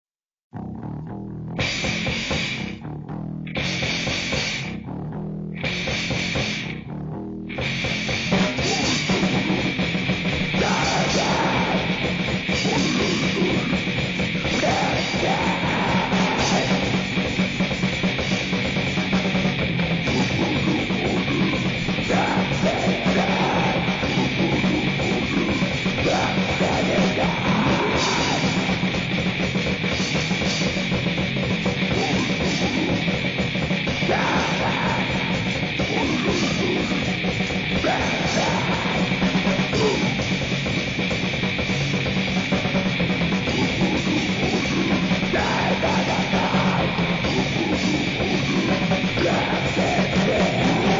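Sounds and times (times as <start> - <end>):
distorted guitar and bass noise: 0.0 - 50.9
drums: 0.0 - 50.9
harsh shouted vocals: 8.2 - 50.9.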